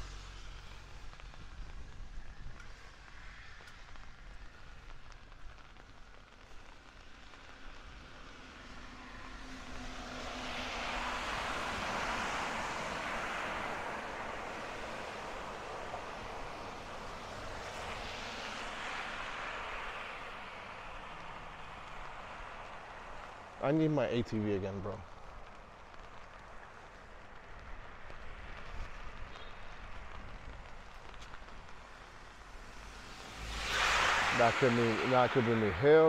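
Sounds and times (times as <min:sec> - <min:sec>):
vehicle passing with rushing hiss: 0:00.0 - 0:02.2, 0:07.0 - 0:25.5, 0:26.2 - 0:36.0.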